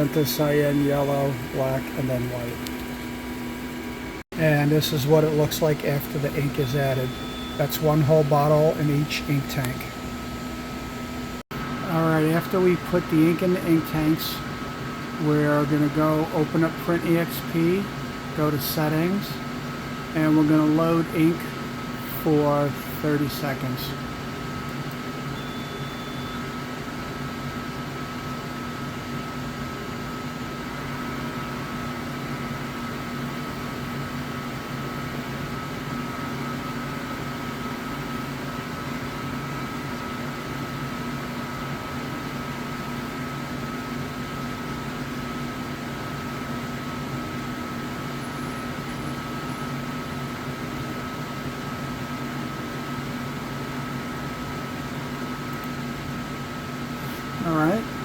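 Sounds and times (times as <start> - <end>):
printer mechanical hum: 0.0 - 58.0.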